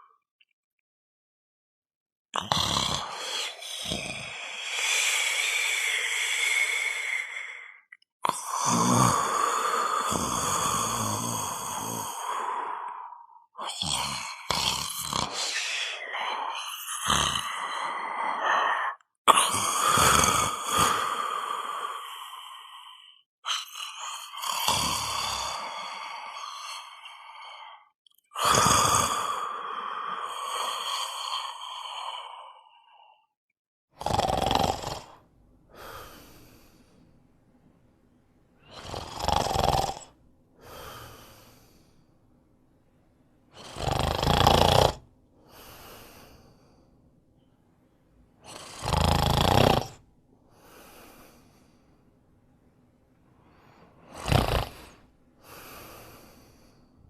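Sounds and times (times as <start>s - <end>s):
person snoring: 2.4s - 33.3s, 33.9s - 36.9s, 38.6s - 42.0s, 43.5s - 46.8s, 48.4s - 51.8s, 53.4s - 57.0s.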